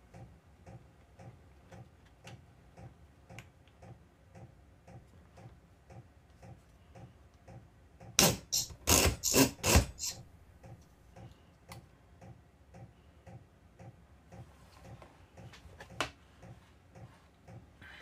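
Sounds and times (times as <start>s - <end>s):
faint steady ticking: 0.0s - 15.6s.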